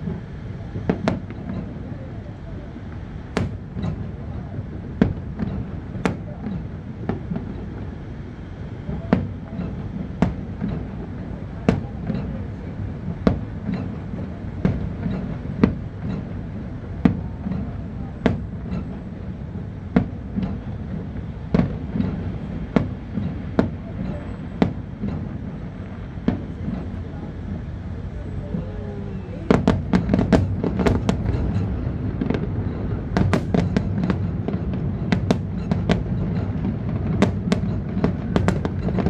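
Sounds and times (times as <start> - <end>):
fireworks bangs and cracks: 0.0 - 2.3, 2.9 - 8.0, 8.7 - 27.7, 29.5 - 39.0
low background rumble: 0.0 - 39.0.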